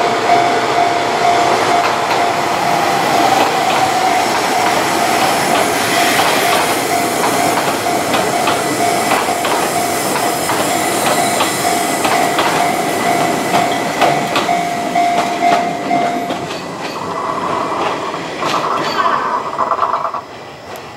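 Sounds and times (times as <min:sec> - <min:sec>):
level crossing warning bell: 0:00.0 - 0:17.2
train wheels clattering: 0:00.0 - 0:20.9.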